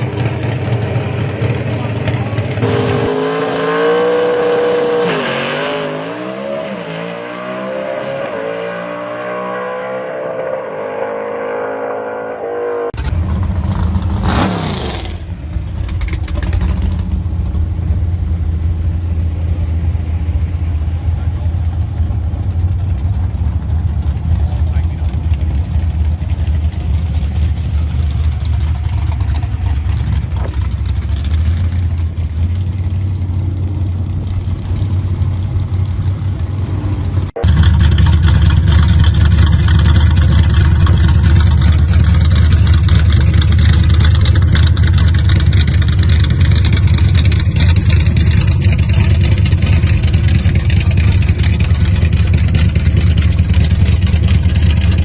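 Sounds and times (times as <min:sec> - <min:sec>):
hot rod engine rumbling: 0:00.0 - 0:05.6, 0:12.9 - 0:55.0
louder closer engine running: 0:00.0 - 0:09.2, 0:12.9 - 0:55.0.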